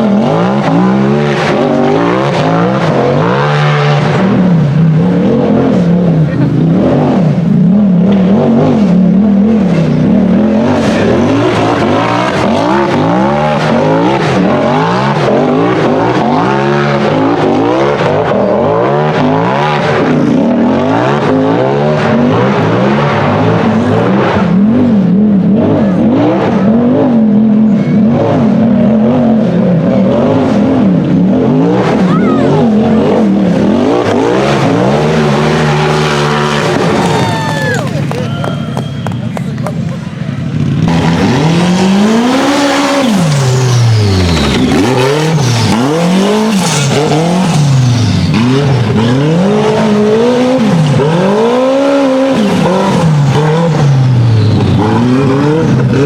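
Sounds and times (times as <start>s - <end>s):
buggy engine revving: 0.0s - 56.0s.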